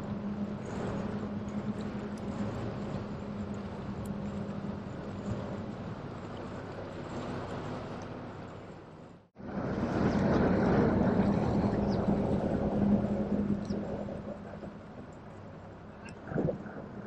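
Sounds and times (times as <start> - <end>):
ferry engine droning: 0.0 - 17.0.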